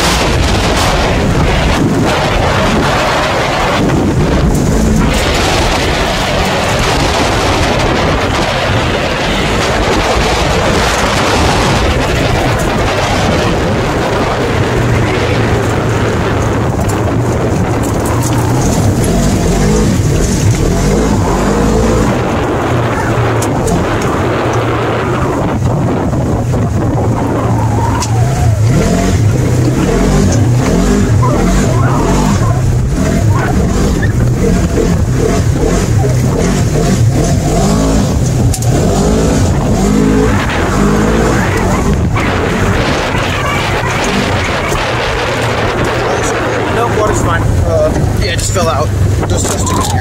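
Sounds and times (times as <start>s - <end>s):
tyres rumbling on gravel: 0.0s - 50.0s
vehicle engine: 0.0s - 50.0s
wind buffeting microphone: 0.0s - 50.0s.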